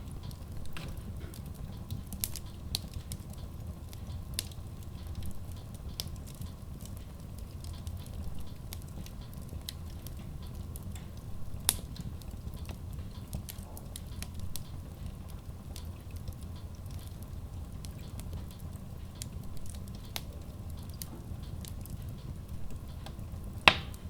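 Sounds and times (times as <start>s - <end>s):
fire popping: 0.0s - 24.0s
logs burning in stove: 0.0s - 24.0s.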